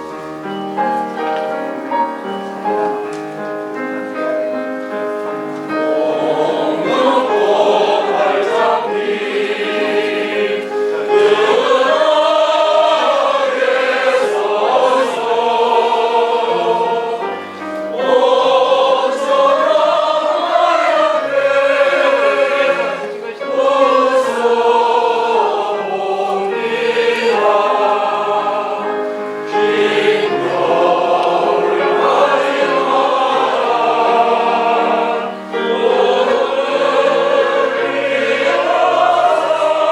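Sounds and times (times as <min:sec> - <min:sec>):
piano accompaniment: 0:00.0 - 0:39.9
group of voices singing: 0:05.7 - 0:39.9.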